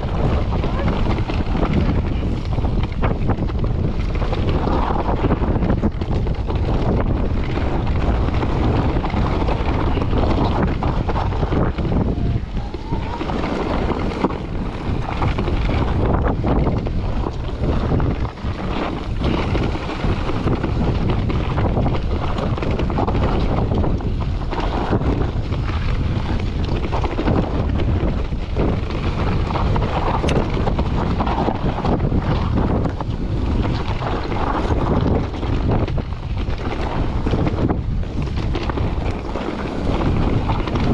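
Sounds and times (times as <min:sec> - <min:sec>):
bike rattling over bumps: 0:00.0 - 0:40.9
tyres crunching over rocky trail: 0:00.0 - 0:40.9
wind buffeting microphone: 0:00.0 - 0:40.9.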